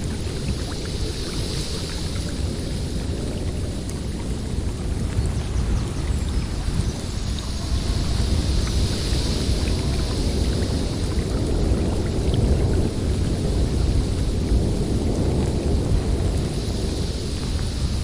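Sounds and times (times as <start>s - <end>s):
snowstorm wind blowing: 0.0s - 18.0s.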